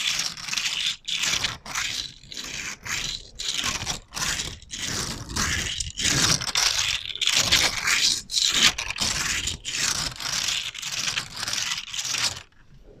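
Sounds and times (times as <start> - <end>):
rough scraping strokes: 0.0 - 13.0.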